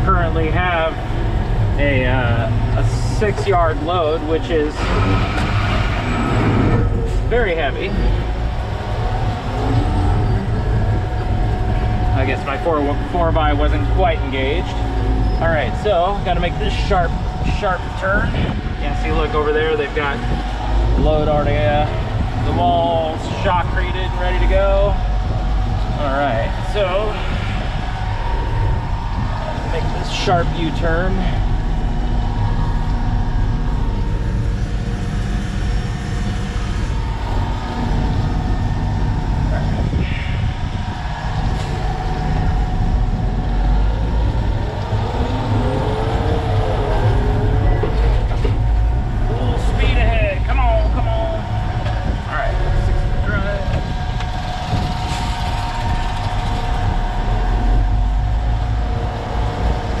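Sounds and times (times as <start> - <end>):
diesel truck engine rumbling: 0.0 - 60.0
faint steady whine: 0.0 - 60.0.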